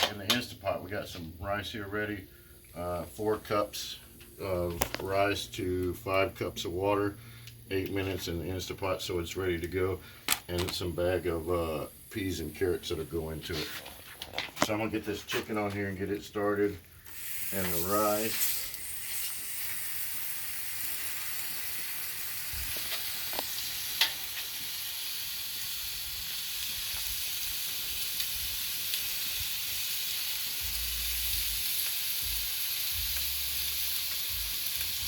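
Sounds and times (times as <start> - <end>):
chicken sizzling on griddle: 0.0 - 35.0.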